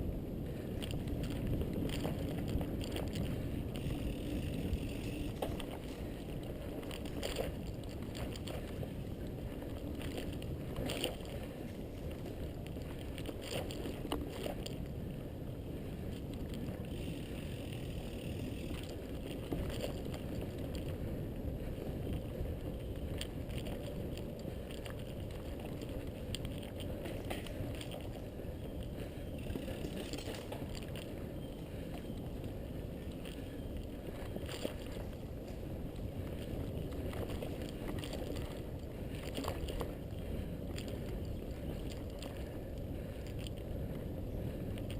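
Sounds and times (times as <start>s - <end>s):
bike clicks and rattles: 0.0s - 44.9s
bike tyres rolling on dirt: 0.0s - 44.9s.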